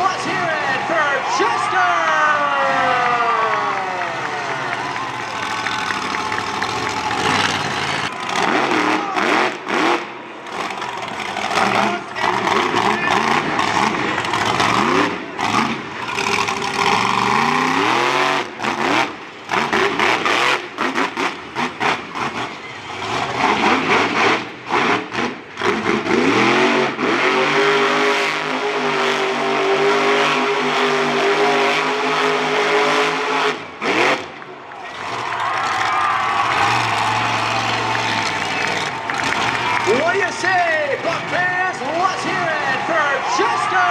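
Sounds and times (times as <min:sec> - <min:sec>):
monster truck engine revving: 0:01.5 - 0:43.9.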